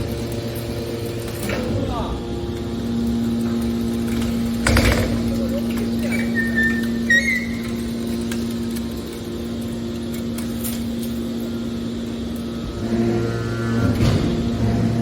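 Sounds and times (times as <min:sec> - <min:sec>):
baler motor and pump humming: 0:00.0 - 0:15.0
low loud hum: 0:00.0 - 0:15.0.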